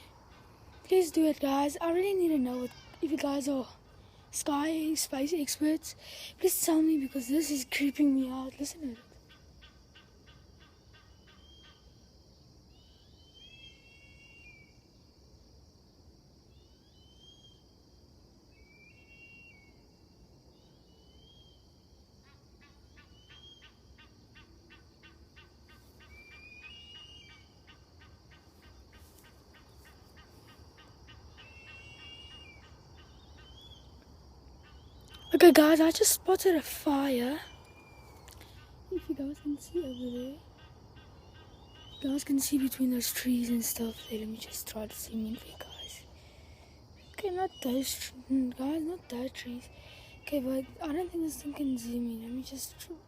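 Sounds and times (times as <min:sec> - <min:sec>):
faint bird calls: 0:00.0 - 0:05.0, 0:05.7 - 0:12.1, 0:12.7 - 0:15.0, 0:16.5 - 0:17.7, 0:18.5 - 0:19.9, 0:20.5 - 0:53.0.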